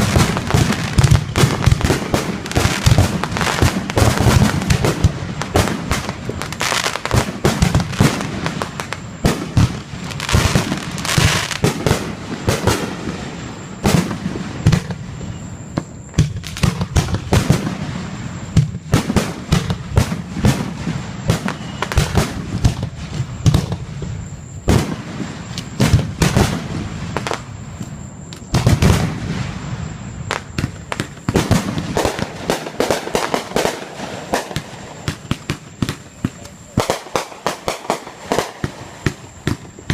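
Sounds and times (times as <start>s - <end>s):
fireworks bangs and crackling: 0.0s - 39.9s
fireworks booms: 0.0s - 39.9s.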